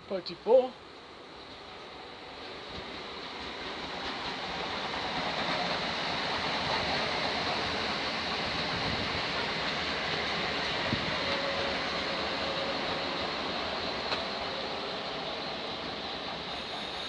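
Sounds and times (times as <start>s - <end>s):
train wheels rushing on rails: 1.0s - 17.0s.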